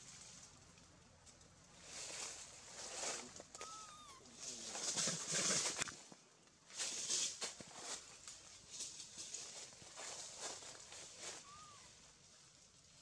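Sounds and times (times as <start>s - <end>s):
leaves and branches rustling: 0.0s - 13.0s.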